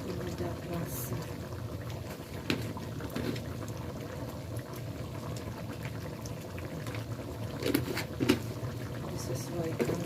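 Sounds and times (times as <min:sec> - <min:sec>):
sauce simmering and bubbling: 0:00.0 - 0:10.0.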